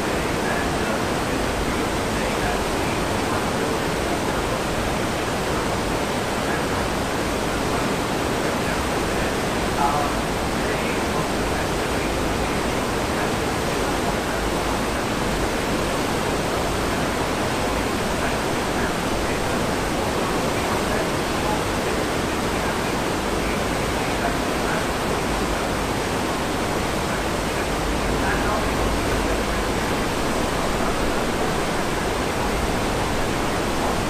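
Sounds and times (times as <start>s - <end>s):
churning ship wake water: 0.0s - 34.0s.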